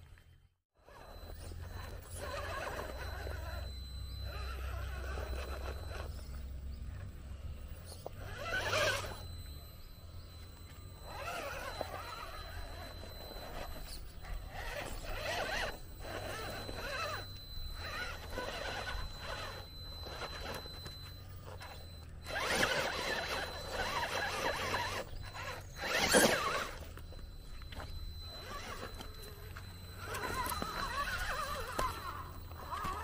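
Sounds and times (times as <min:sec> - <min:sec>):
toy car electric motor whining: 0:00.8 - 0:33.0.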